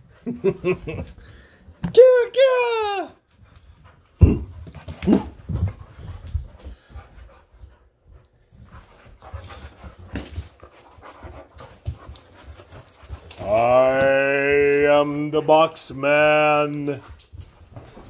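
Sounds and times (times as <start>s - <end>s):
paws scuffling: 3.2s - 18.0s
puppies panting: 3.2s - 18.0s.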